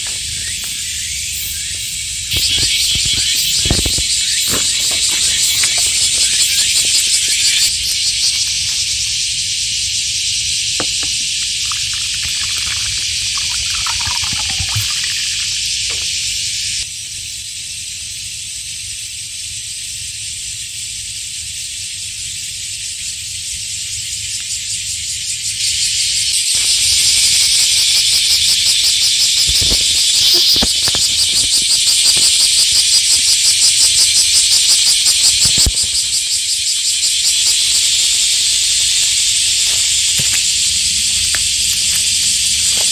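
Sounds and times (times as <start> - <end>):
cicadas buzzing: 0.0 - 42.9.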